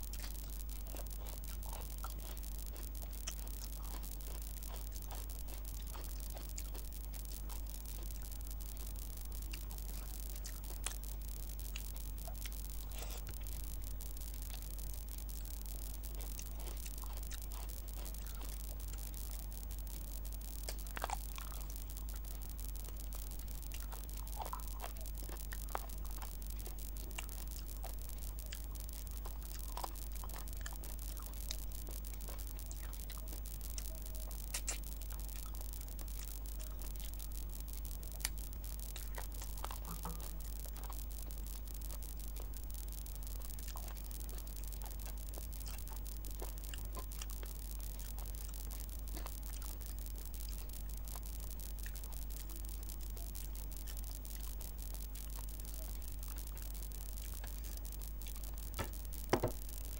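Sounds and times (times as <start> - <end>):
low hum and hiss: 0.0 - 59.9
wet chewing and mouth sounds: 0.0 - 59.9.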